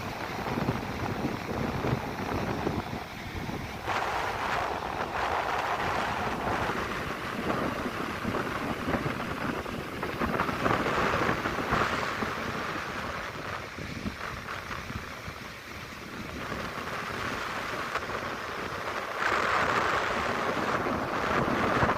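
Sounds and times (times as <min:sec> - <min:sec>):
sea water rushing: 0:00.0 - 0:21.9
wind buffeting microphone: 0:00.0 - 0:21.9.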